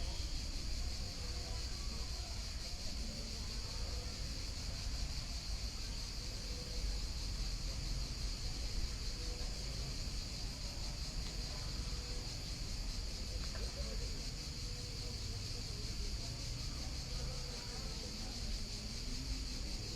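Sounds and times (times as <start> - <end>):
insect chorus: 0.0 - 19.9.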